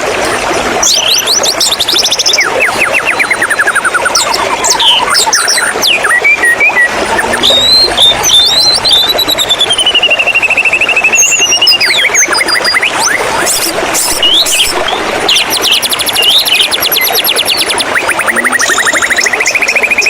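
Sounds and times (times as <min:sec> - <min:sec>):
running water: 0:00.0 - 0:20.0
bird singing: 0:00.8 - 0:20.0.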